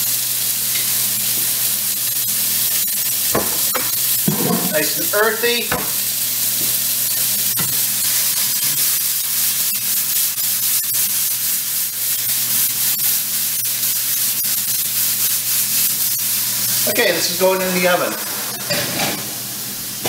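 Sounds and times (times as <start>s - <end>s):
vegetables sizzling in pan: 0.0s - 20.0s.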